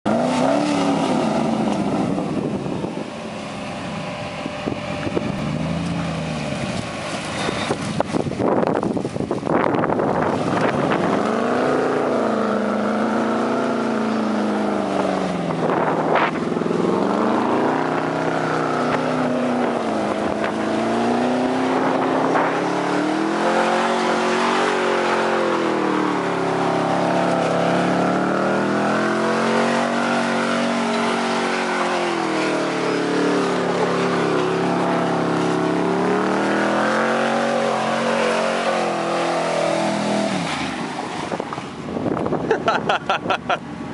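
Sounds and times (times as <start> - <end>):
truck engine revving: 0.0 - 8.7, 9.5 - 43.3.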